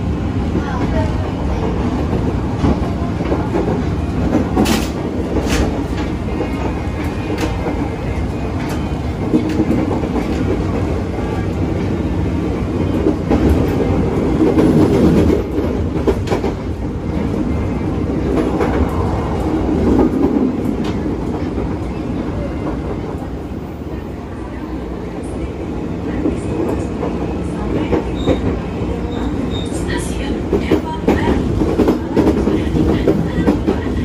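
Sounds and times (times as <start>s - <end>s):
train car rumbling: 0.0s - 34.0s.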